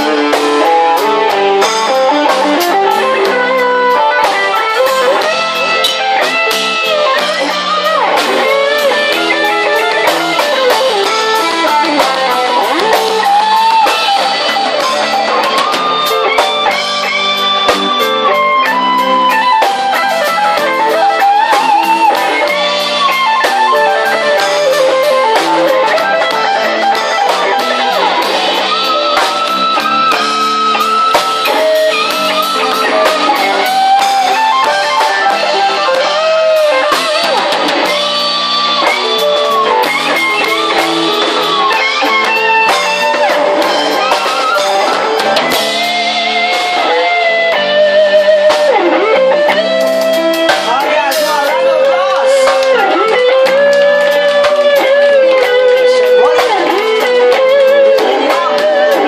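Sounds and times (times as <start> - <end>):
electric guitar lead with bent notes: 0.0 - 59.0
steady drums: 0.0 - 59.0.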